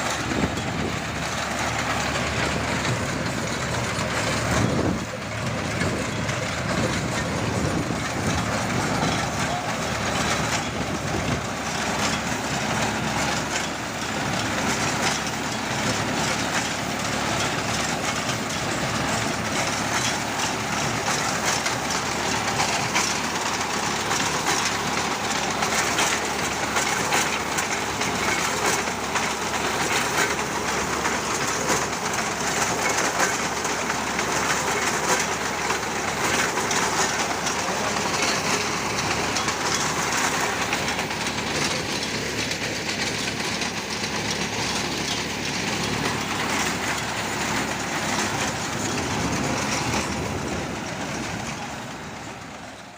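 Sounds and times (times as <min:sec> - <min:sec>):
reaper binder cutting wheat: 0:00.0 - 0:52.3
tractor engine running: 0:00.0 - 0:52.9.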